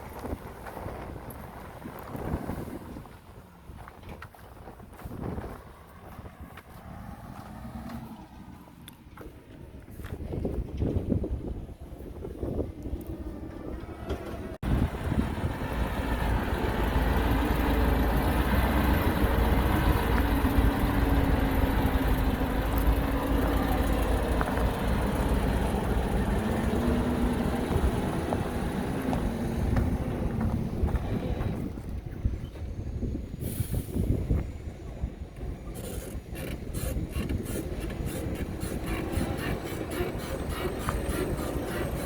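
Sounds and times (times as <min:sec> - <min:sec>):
heavy diesel engine rumbling: 0:00.0 - 0:42.0.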